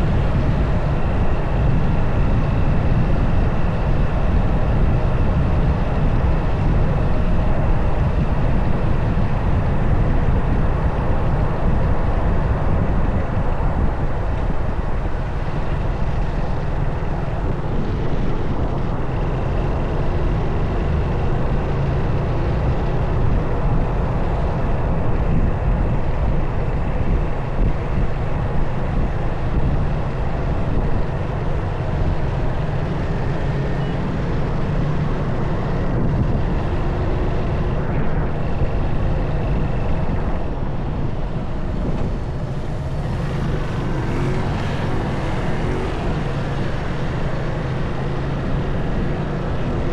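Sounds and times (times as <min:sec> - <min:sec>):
low wind rumble on microphone: 0:00.0 - 0:49.9
motorcycle engine running: 0:00.0 - 0:49.9.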